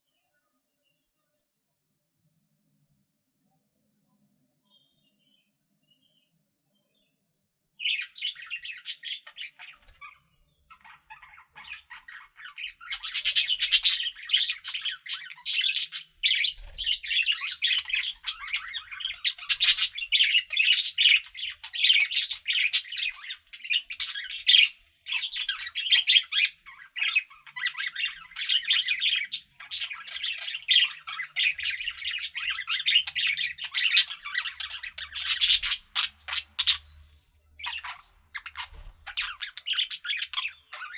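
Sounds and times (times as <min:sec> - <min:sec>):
budgerigars chattering: 0:07.8 - 0:40.9.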